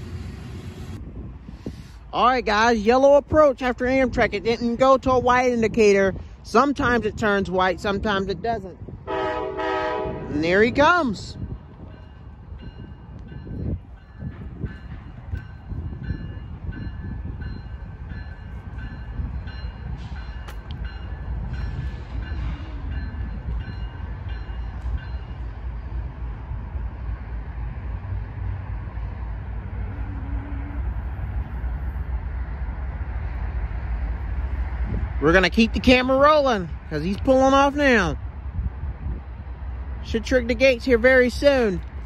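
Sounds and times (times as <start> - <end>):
diesel locomotives rumbling: 0.0 - 42.0.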